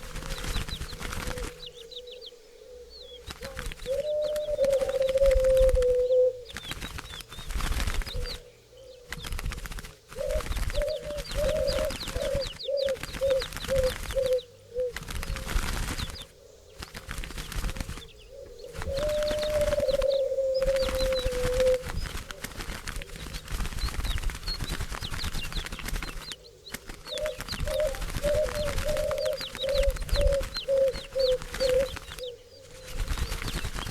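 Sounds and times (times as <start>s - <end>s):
wings flapping: 0.0s - 2.1s, 3.1s - 33.9s
doves cooing: 0.0s - 24.3s, 26.2s - 33.9s.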